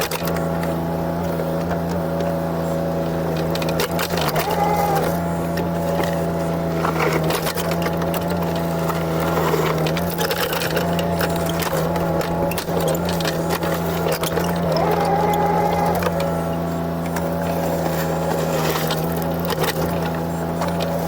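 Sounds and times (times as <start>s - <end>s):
excavator diesel engine: 0.0s - 21.0s
ground crackling and cracking: 3.4s - 20.5s.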